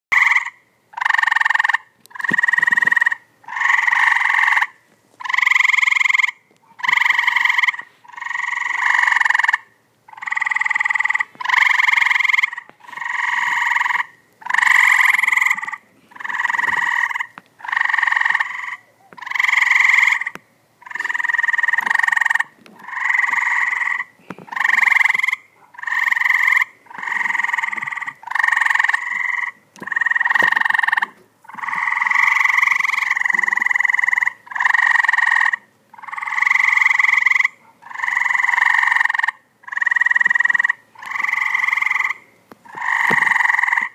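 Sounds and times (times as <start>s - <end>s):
tree frogs calling: 0.1s - 43.9s.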